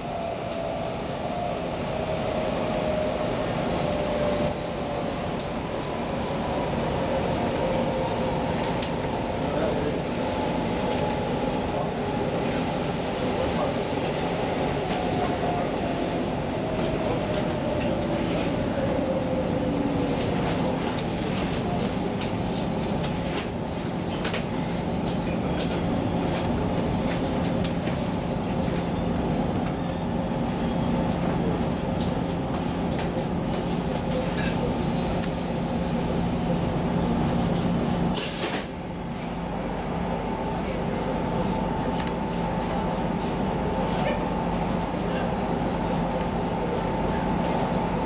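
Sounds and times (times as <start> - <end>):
electric train rumble and hum: 0.0 - 48.0.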